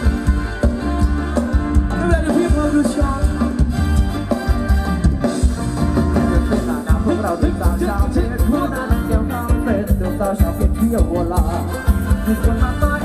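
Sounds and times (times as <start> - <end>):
live band playing dance music: 0.0 - 13.0
steady drum beat: 0.0 - 13.0.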